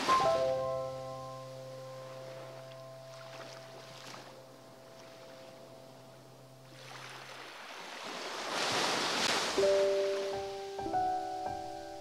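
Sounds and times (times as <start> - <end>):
soft background music: 0.0 - 8.2, 9.6 - 12.0
sea waves washing ashore: 0.0 - 12.0.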